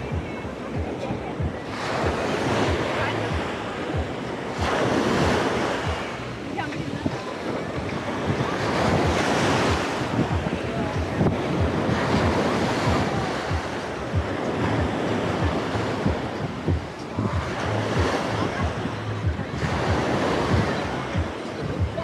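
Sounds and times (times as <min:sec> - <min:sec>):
sea waves washing ashore: 0:00.0 - 0:22.0
wind buffeting microphone: 0:00.0 - 0:22.0.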